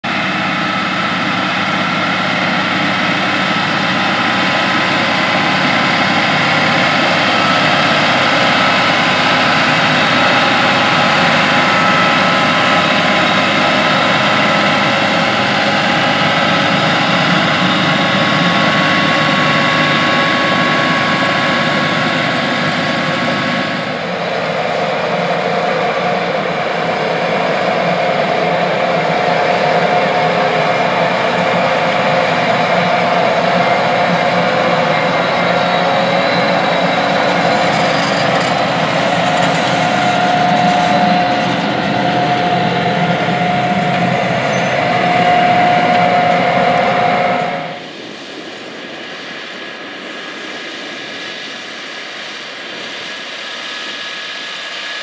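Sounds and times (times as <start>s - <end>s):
tractor diesel engine running: 0.0s - 48.1s
steady whine: 0.0s - 55.0s.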